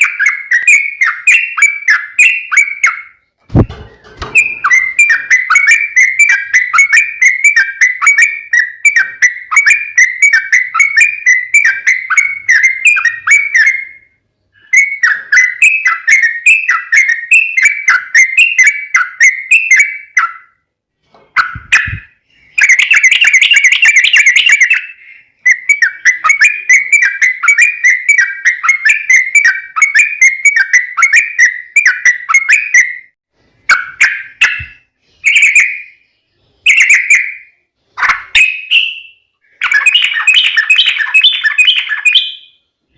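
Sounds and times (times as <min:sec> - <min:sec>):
bird singing bubbling song: 0:00.0 - 0:20.6, 0:21.4 - 0:33.1, 0:33.7 - 0:42.9.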